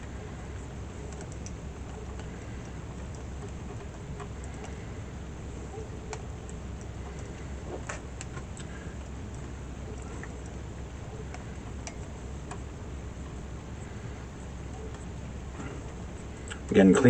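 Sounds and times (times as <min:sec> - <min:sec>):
wire clicking when handled: 0:00.0 - 0:16.7
steady low hum: 0:00.0 - 0:17.0.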